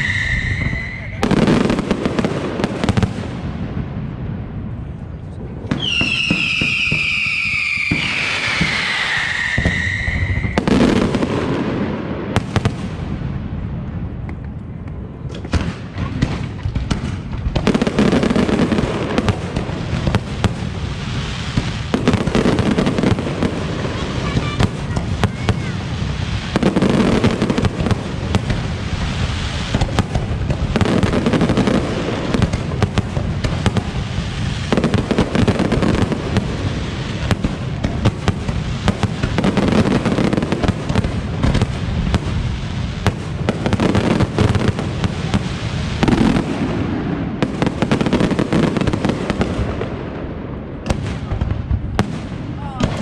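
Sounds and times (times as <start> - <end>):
fireworks bursts and crackling bangs: 0.0 - 53.0.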